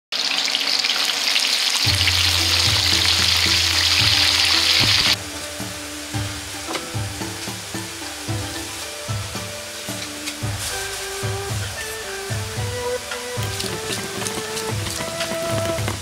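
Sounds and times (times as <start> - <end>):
food deep-frying in hot oil: 0.1 - 16.0
music of short repeated notes: 1.9 - 16.0.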